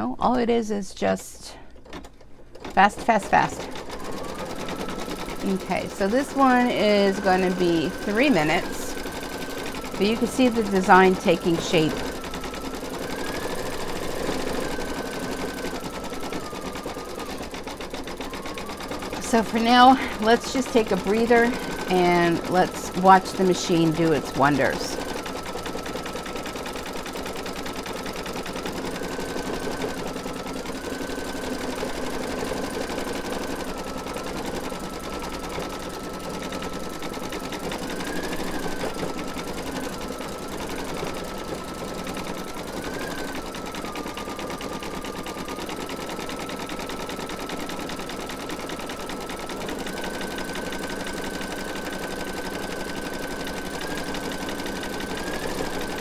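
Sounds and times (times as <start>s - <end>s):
embroidery machine needle stitching: 1.8s - 56.0s
motor whine: 2.6s - 56.0s.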